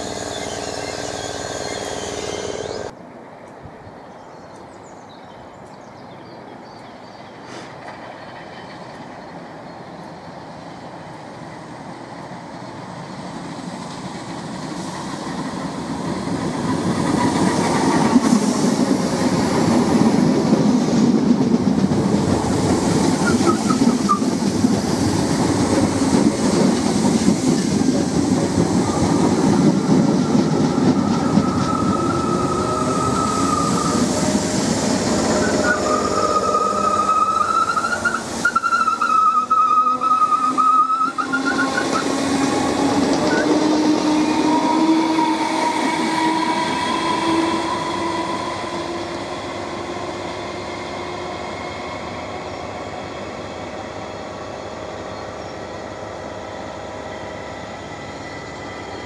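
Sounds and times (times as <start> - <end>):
electric train passing: 0.0 - 4.2, 5.0 - 59.0.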